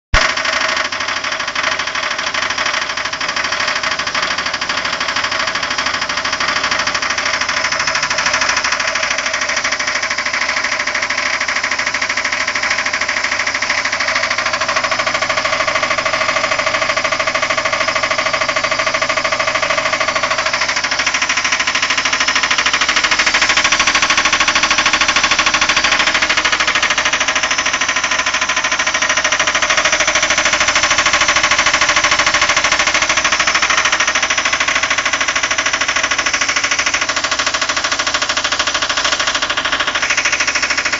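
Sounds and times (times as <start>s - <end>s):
washing machine spinning: 0.1s - 40.9s
drum bearings rattling grind: 2.3s - 40.9s.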